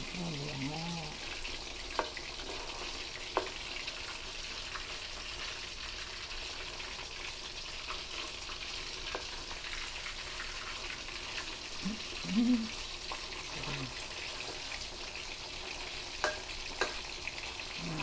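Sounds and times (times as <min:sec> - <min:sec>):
meat deep-frying in oil: 0:00.0 - 0:18.0.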